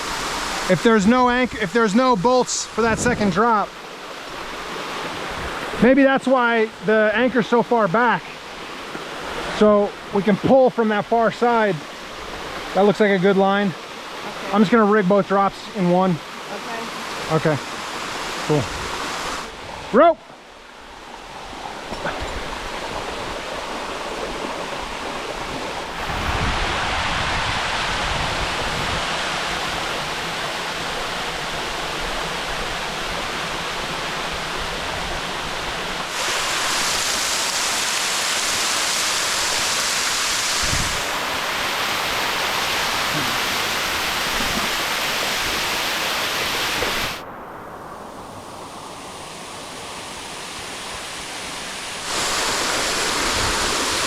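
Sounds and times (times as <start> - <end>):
waterfall rushing: 0.0 - 47.2, 47.8 - 54.0.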